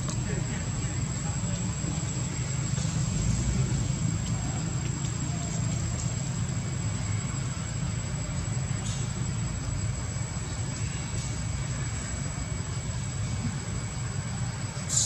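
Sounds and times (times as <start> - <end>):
high-pitched whine: 0.0 - 15.0
low outdoor rumble: 0.0 - 15.0.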